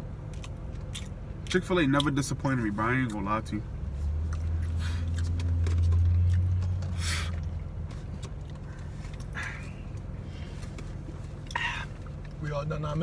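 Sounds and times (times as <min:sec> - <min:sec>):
steady low hum: 0:00.0 - 0:13.0
vehicle engine rumble: 0:00.0 - 0:13.0.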